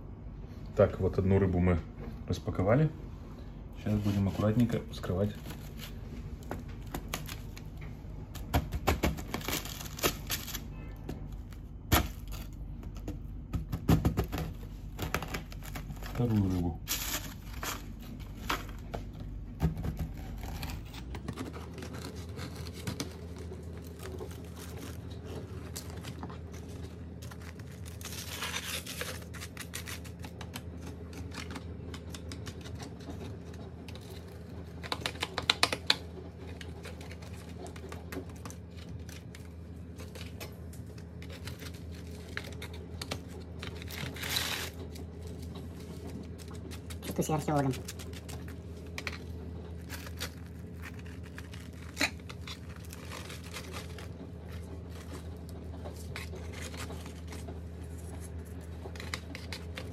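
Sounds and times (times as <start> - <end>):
crust crackling: 3.7 - 59.9.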